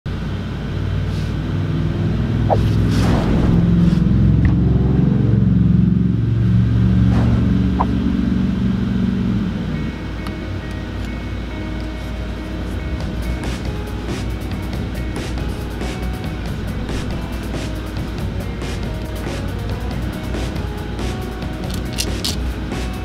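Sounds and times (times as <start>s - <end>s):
vehicle engine revving: 0.2s - 23.0s.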